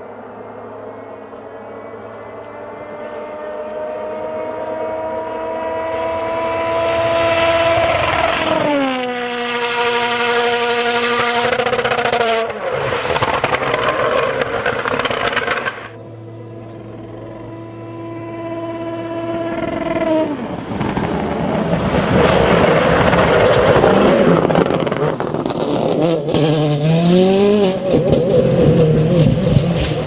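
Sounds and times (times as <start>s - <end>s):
distant engine: 0.0s - 30.0s
harsh loud car engine: 0.0s - 30.0s
rally car engine passing: 0.0s - 30.0s.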